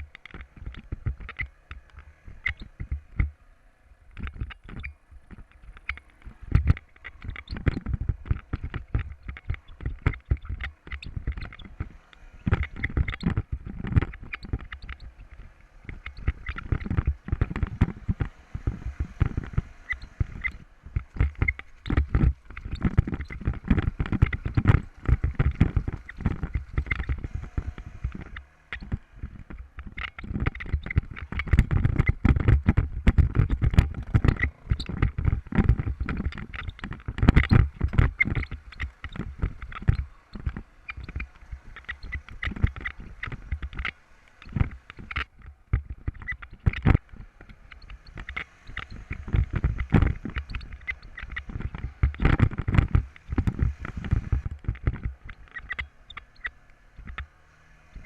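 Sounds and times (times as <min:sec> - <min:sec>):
rapid knocking and rattling: 0:00.0 - 0:58.0.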